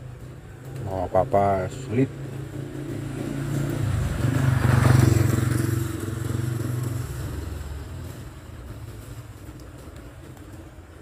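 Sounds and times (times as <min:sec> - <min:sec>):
motorcycle passing: 0:00.0 - 0:11.0.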